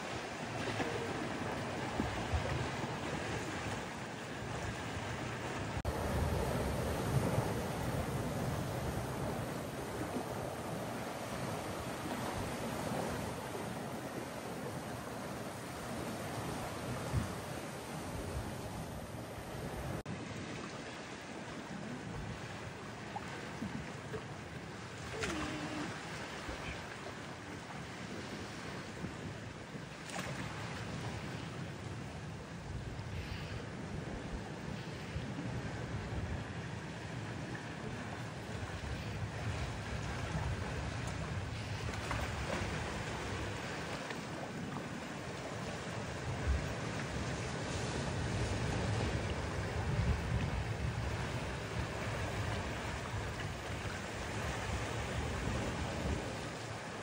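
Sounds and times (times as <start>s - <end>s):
wind on microphone: 0.0s - 20.8s, 21.4s - 57.0s
sea waves washing: 0.0s - 57.0s.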